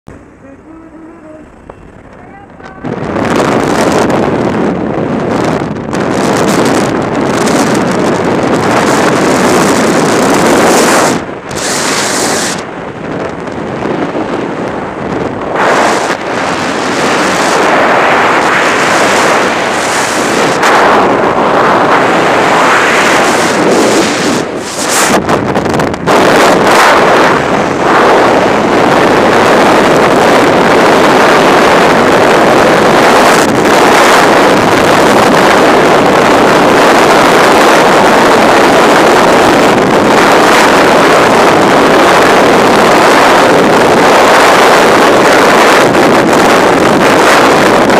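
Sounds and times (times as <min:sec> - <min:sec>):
wind rushing over microphone: 0:00.1 - 0:47.9.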